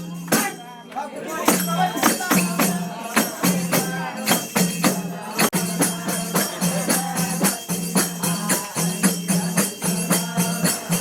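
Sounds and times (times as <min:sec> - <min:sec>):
jingling tambourine-like percussion: 0:00.0 - 0:11.0.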